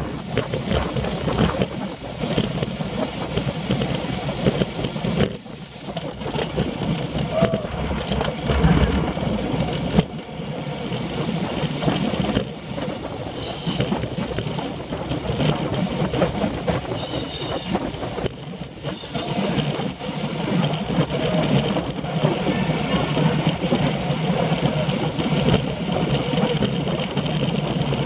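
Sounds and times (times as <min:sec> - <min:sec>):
tyre and road rumble: 0:00.0 - 0:28.0
wind buffeting microphone: 0:00.0 - 0:28.0.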